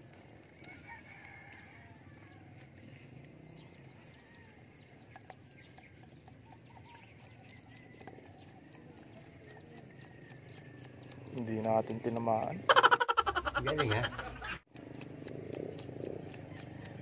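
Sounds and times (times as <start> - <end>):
distant animals and birds calling: 0.0 - 17.0.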